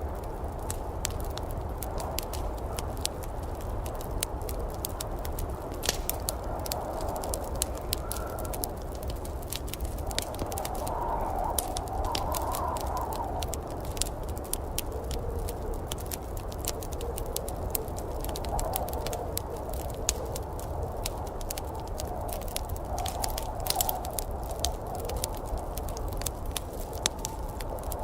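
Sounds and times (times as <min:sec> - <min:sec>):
storm rumble and hiss: 0:00.0 - 0:28.0
wood fire crackling and popping: 0:00.0 - 0:28.0.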